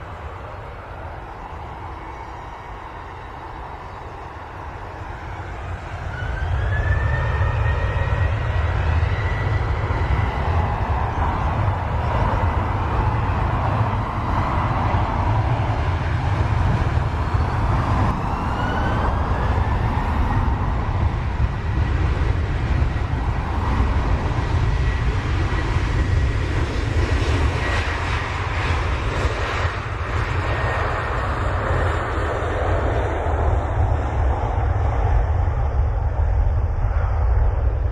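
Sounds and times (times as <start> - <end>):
jet engines roaring: 0.0 - 37.9.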